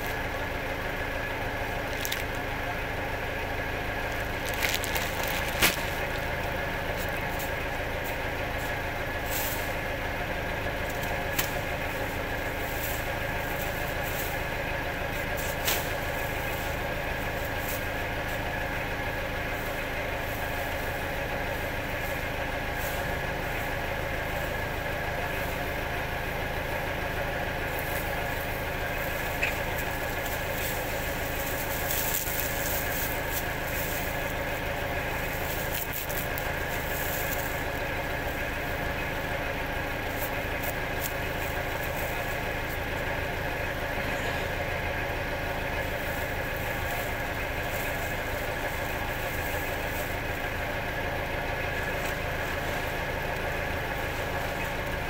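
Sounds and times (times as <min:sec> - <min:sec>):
machine humming: 0:00.0 - 0:55.0.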